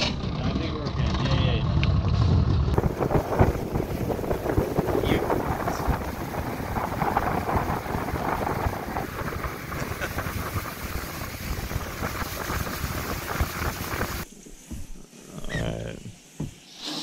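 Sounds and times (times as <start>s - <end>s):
wind buffeting microphone: 0.0s - 14.3s.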